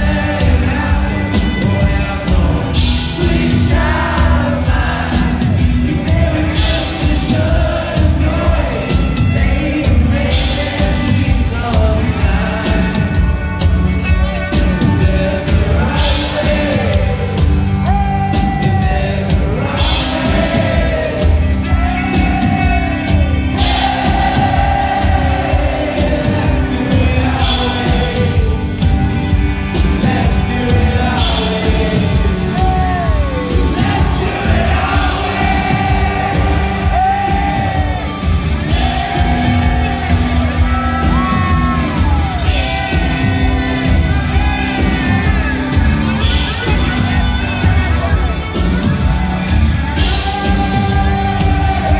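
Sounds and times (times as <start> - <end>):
lead singer singing: 0.0 - 51.9
live rock band: 0.0 - 51.9.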